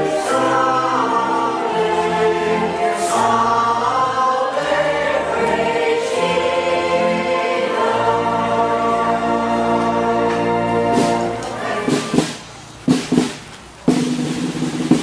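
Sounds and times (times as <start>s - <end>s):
choir singing a hymn: 0.0s - 12.4s
low accompanying notes: 0.0s - 13.3s.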